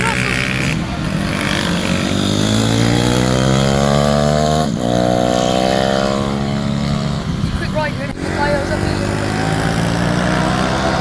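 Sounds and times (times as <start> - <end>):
pit bike engine accelerating: 0.0 - 11.0.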